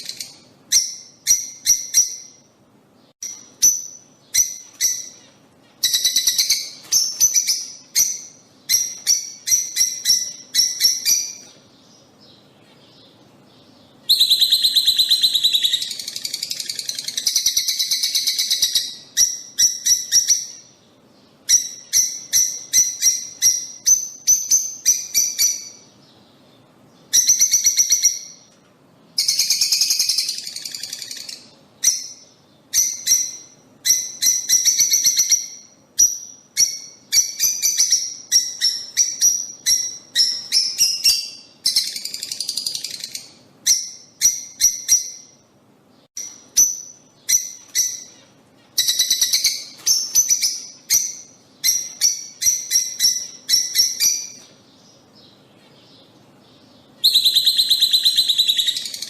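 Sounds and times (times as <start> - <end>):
lovebirds chirping: 0.0 - 59.0.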